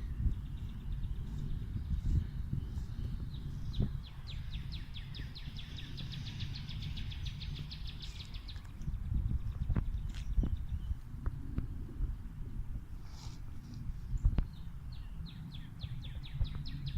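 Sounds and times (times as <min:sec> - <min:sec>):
low background rumble: 0:00.0 - 0:16.9.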